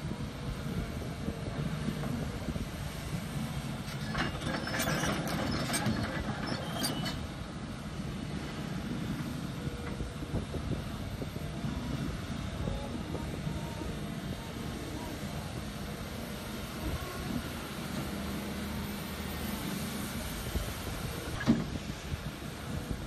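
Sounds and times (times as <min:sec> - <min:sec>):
excavator diesel engine running: 0:00.1 - 0:23.0.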